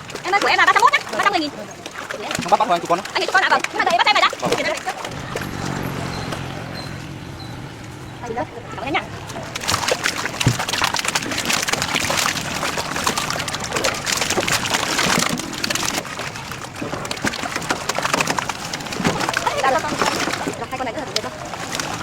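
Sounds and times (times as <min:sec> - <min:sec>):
fish thrashing and splashing: 0:00.0 - 0:22.0.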